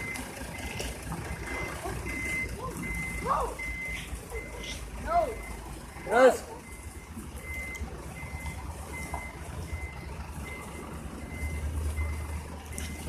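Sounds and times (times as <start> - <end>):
reversing alarm beeping: 0.0 - 0.7, 1.3 - 13.0
low engine rumble: 0.0 - 13.0.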